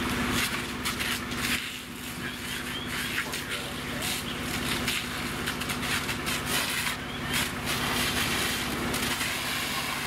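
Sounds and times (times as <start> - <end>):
fire crackling: 0.0 - 10.0
fire engine pump hum: 0.0 - 10.0.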